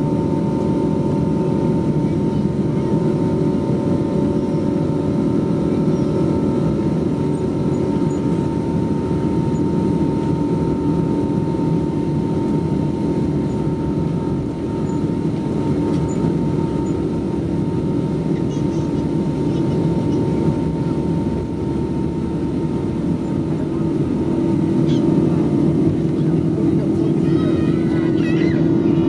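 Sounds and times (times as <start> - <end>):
jet engine roar with high whine: 0.0 - 29.0.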